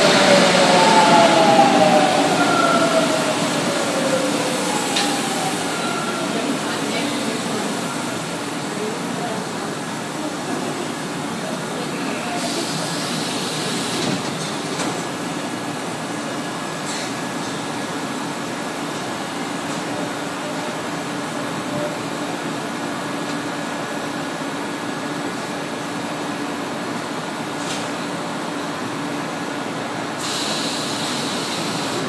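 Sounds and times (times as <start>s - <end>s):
subway train equipment humming: 0.0s - 32.0s.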